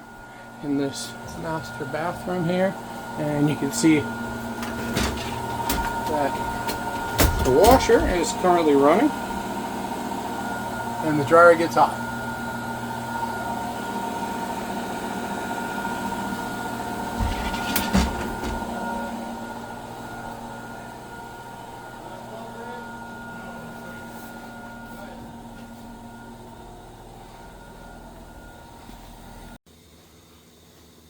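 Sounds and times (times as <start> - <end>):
washer humming: 0.0 - 29.6.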